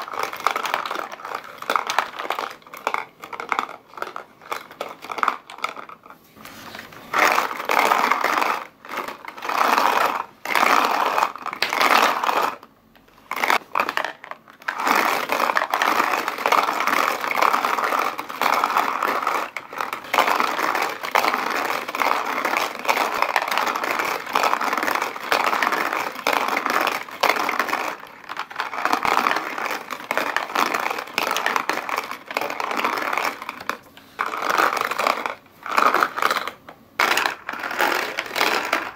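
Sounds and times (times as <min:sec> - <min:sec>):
balls rattling in cardboard drum: 0:00.0 - 0:38.9
balls rolling on cardboard: 0:00.0 - 0:38.9.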